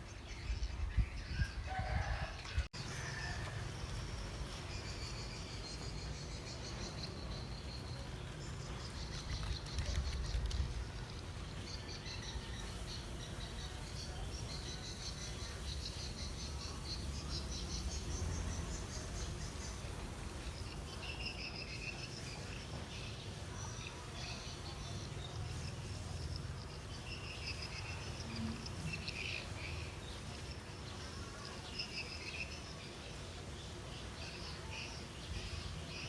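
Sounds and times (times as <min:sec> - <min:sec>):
insects trilling: 0:02.8 - 0:36.0.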